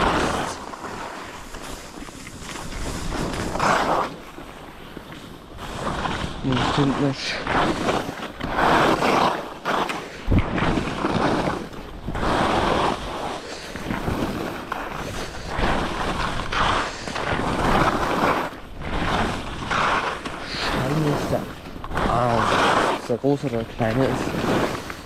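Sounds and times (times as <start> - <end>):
skis scraping over snow: 0.0 - 25.0.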